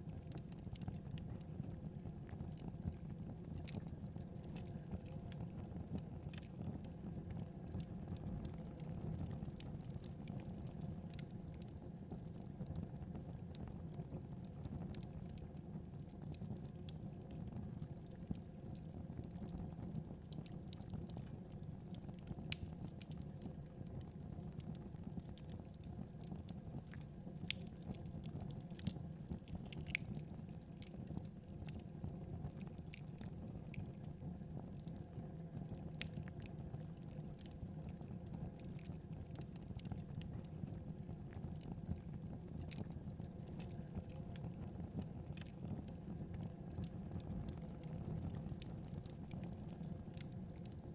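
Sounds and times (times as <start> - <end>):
burning wood crackling and popping: 0.0 - 50.9
flames rumbling: 2.2 - 50.8.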